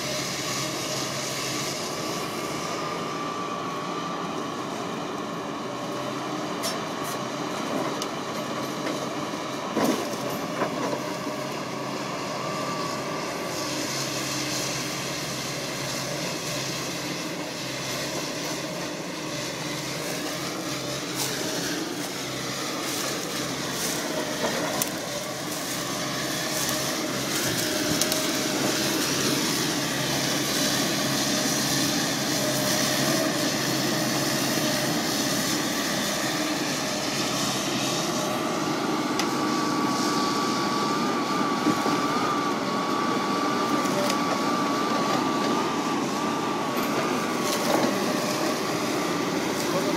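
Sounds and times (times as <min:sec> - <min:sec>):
excavator engine and hydraulics: 0:00.0 - 0:49.9.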